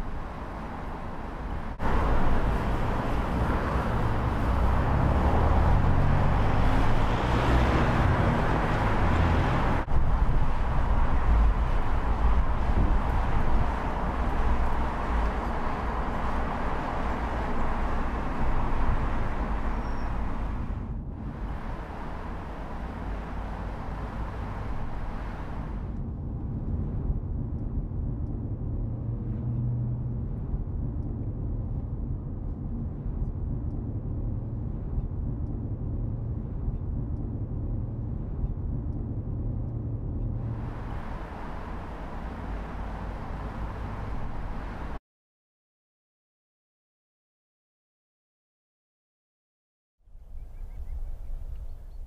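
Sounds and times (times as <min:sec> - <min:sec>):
car engine and road drone: 0:00.0 - 0:45.0
outdoor traffic and street noise: 0:00.0 - 0:45.0, 0:50.0 - 0:52.0.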